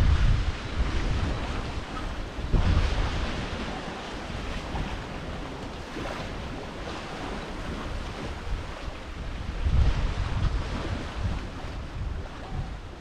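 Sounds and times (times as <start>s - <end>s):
water rushing along hulls: 0.0s - 13.0s
wind on microphone: 0.0s - 13.0s.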